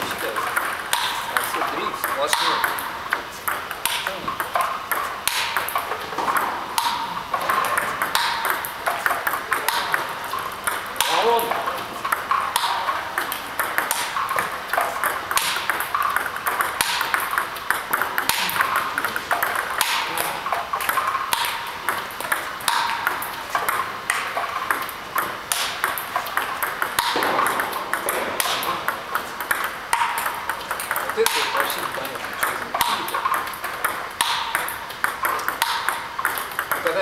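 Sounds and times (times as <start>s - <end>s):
table tennis ball rally: 0.0s - 37.0s.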